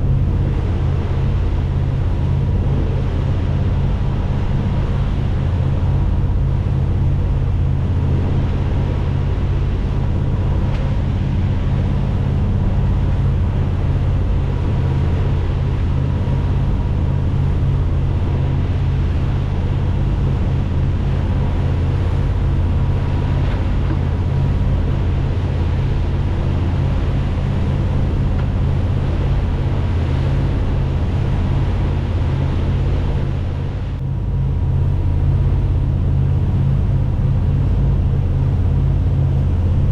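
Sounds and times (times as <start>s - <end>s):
boat engine droning: 0.0s - 39.9s
wind and water hiss: 0.0s - 39.9s.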